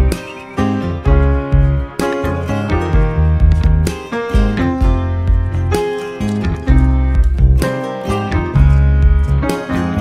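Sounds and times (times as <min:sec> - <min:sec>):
instrumental music with strong bass: 0:00.0 - 0:10.0.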